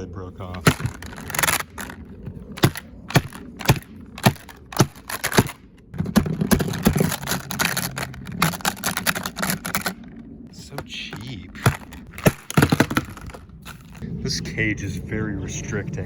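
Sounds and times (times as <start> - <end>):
fan blade pieces clacking: 0.5 - 14.0.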